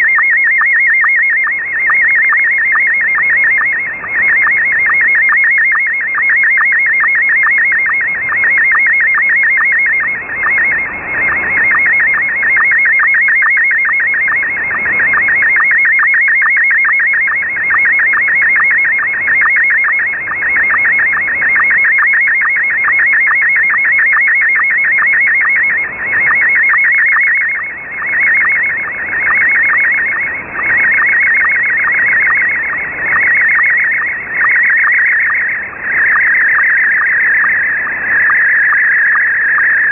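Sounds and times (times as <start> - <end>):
warbling radio signal tones: 0.0 - 39.9.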